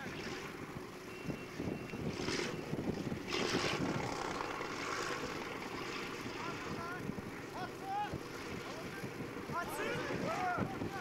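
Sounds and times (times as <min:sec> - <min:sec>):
tracked vehicle engine drone: 0:00.0 - 0:11.0
rushes of noise: 0:02.0 - 0:11.0.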